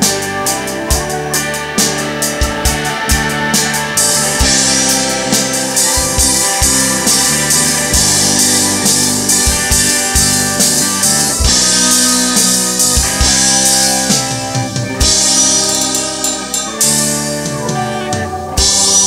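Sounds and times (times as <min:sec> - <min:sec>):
bass: 0:00.0 - 0:19.0
drum kit steady beat: 0:00.0 - 0:19.0
electric guitar: 0:00.0 - 0:19.0
keyboard solo: 0:00.0 - 0:19.0.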